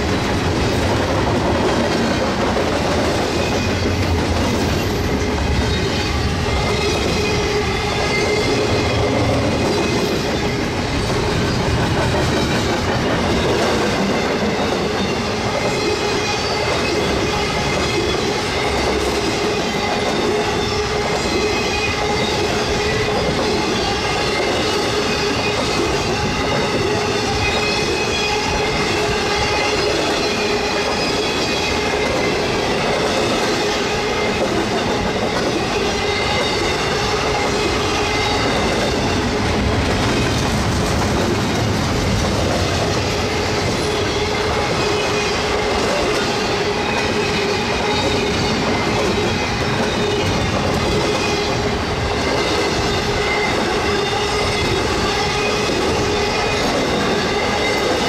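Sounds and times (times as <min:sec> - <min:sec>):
steel wheels rumbling on rail: 0:00.0 - 0:58.0
high wheel squeal: 0:03.3 - 0:11.8, 0:13.2 - 0:39.5, 0:43.1 - 0:58.0.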